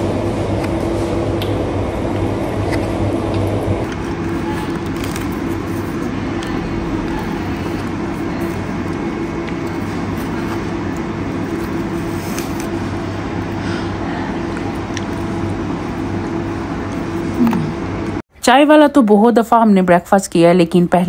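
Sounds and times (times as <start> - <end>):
low hum: 0.0 - 18.2.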